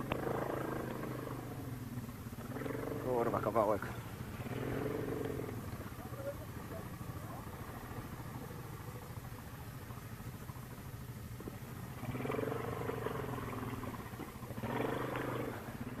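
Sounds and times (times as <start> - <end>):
atv engine idling and revving: 0.0 - 16.0.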